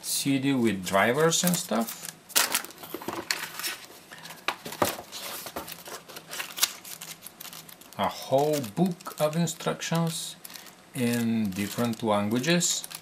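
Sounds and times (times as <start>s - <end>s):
paper pages rustling: 1.0s - 13.0s.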